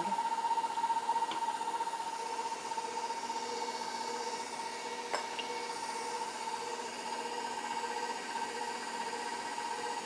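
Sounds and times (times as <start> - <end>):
stand mixer motor whine: 0.0 - 10.0.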